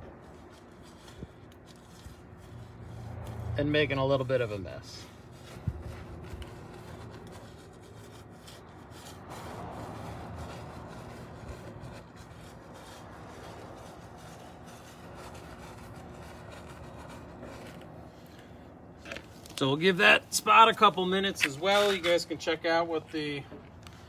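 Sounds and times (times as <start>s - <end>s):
paint brush scrubbing metal: 0.0s - 23.4s.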